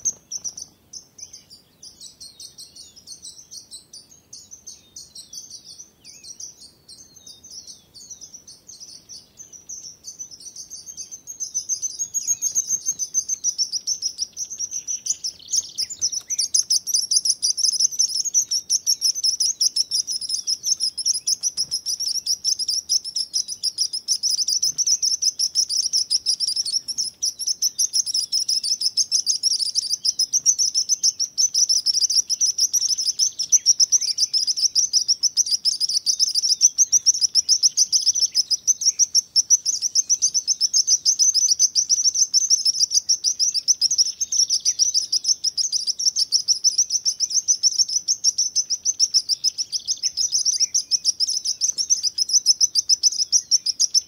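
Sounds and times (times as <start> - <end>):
sparrow chirping: 0.0 - 54.0.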